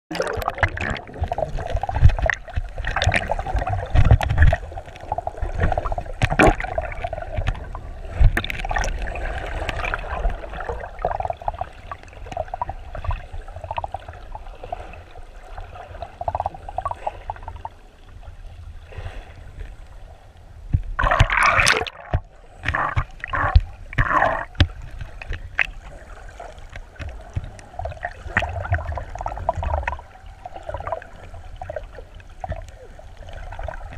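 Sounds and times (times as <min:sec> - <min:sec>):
splashing and bubbling: 0:00.1 - 0:19.8, 0:20.7 - 0:33.9
muffled underwater rumble: 0:00.1 - 0:33.9.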